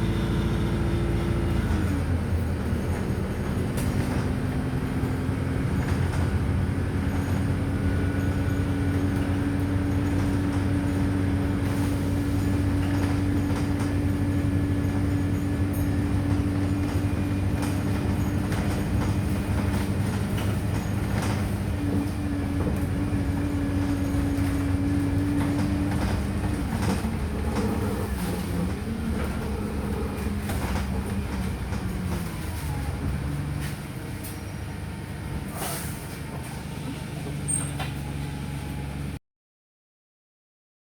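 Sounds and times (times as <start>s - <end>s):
bus body rattles: 0.0s - 39.2s
bus engine drone: 0.0s - 39.2s.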